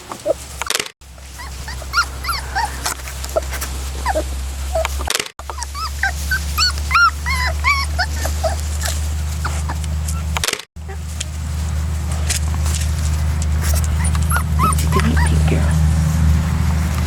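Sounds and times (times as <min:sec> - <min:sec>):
puppies whimpering and squeaking: 0:00.0 - 0:11.4, 0:13.2 - 0:15.9.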